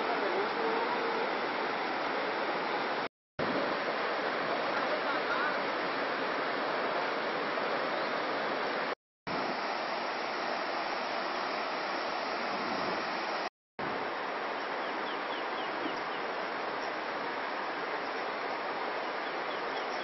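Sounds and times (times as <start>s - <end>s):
river running over rocks: 0.0s - 20.0s.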